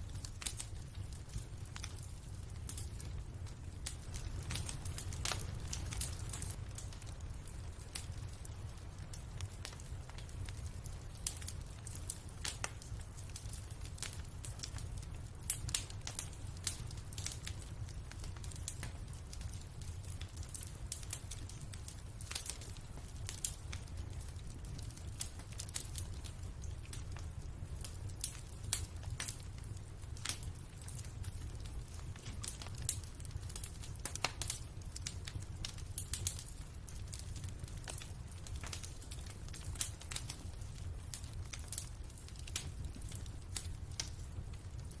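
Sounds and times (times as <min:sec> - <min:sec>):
fire crackling and popping: 0:00.0 - 0:45.0.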